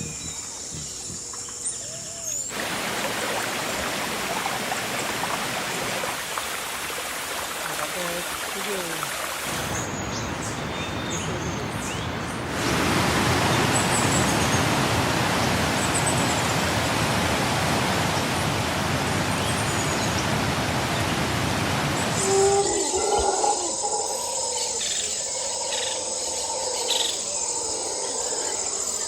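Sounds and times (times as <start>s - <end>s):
rushing water: 2.4s - 29.0s.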